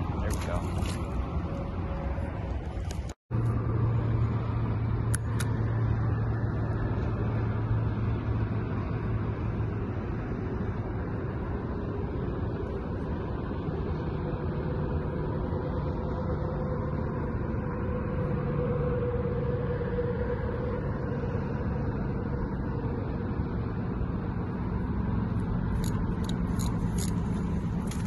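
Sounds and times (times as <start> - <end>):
distant road traffic rumble: 0.0 - 28.0.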